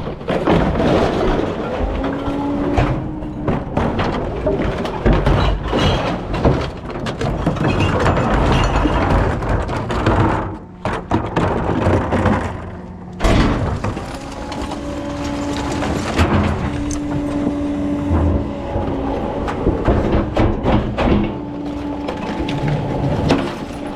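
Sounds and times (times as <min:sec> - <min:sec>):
recycling truck mechanical running: 0:00.0 - 0:23.9.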